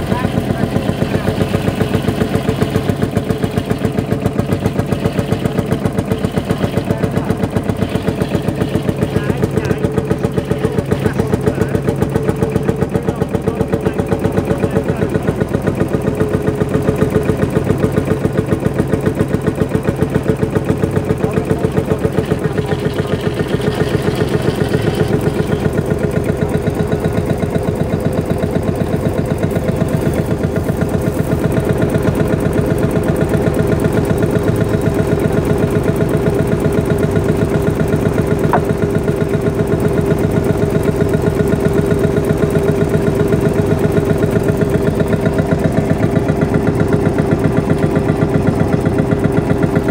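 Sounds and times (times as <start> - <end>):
tractor engine idling: 0.0 - 49.9.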